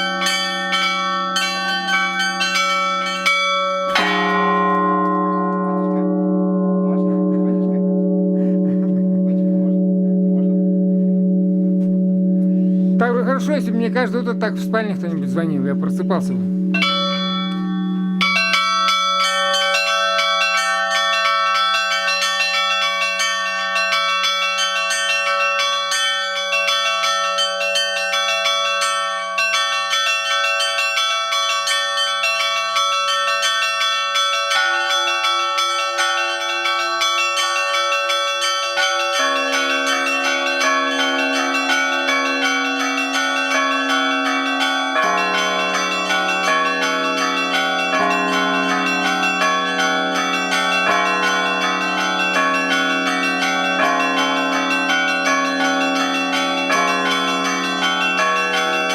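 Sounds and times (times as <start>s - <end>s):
large bell ringing: 0.0s - 58.9s.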